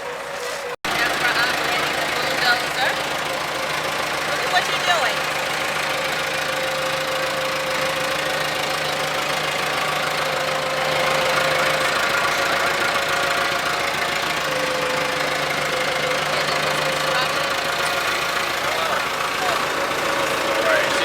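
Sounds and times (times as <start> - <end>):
ride-on toy digger motor humming: 0.9 - 21.0.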